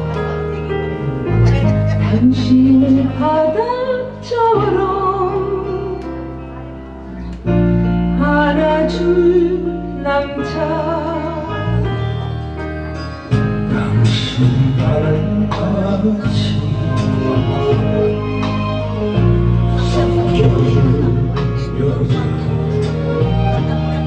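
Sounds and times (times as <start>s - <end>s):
backing music with bass line: 0.0s - 24.0s.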